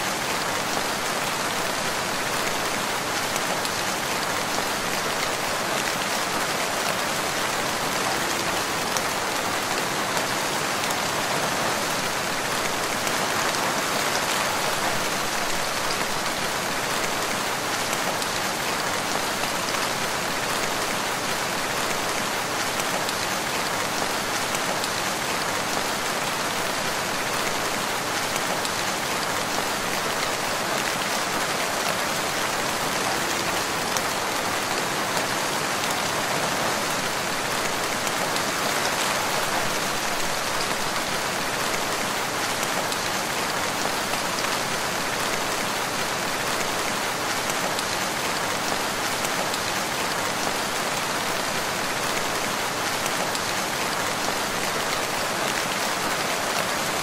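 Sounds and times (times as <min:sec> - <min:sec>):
steady rainfall in forest: 0:00.0 - 0:57.0.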